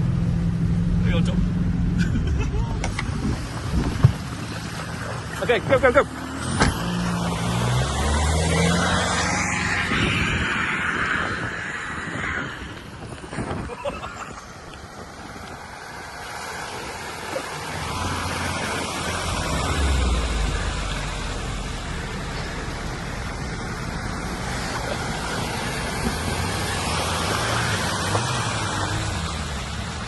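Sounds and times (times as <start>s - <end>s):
vehicle engine rumbling: 0.0s - 30.0s
floodwater rushing: 2.5s - 30.0s.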